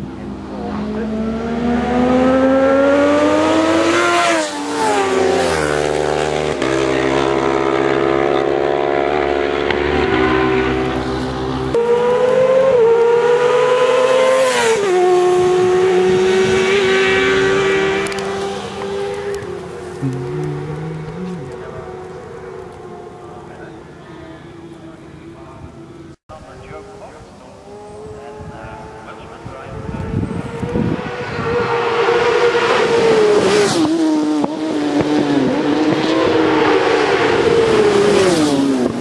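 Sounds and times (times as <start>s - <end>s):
racing motorcycle engines revving: 0.0s - 39.0s.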